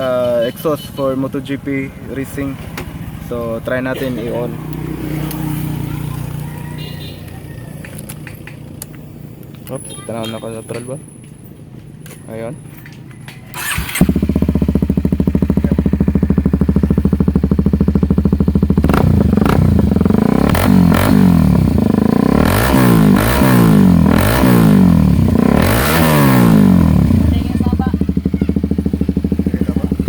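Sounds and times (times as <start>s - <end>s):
motorcycle engine starting and revving: 1.5s - 9.7s, 13.0s - 30.0s.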